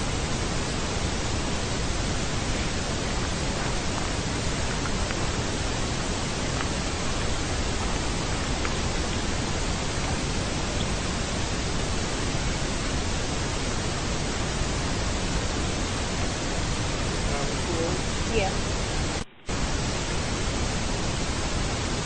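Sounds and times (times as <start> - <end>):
television static hiss: 0.0 - 22.0.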